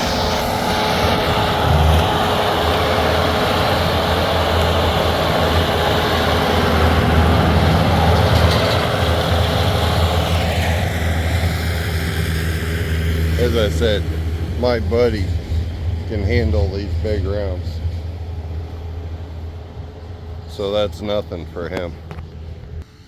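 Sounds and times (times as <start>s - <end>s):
diesel engine running hard: 0.0s - 23.0s
rumble of working machinery: 0.0s - 23.0s.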